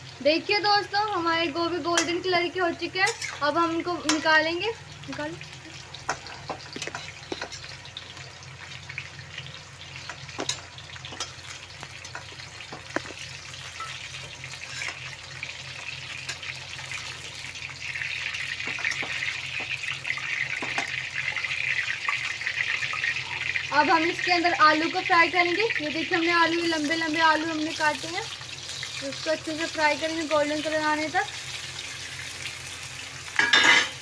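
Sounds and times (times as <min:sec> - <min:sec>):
hot oil sizzling in a pan: 0:00.0 - 0:34.0.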